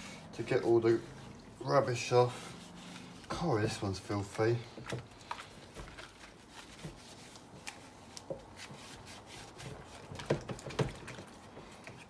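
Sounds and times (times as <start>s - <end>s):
scrubbing plastic in soapy water: 0.0s - 12.0s.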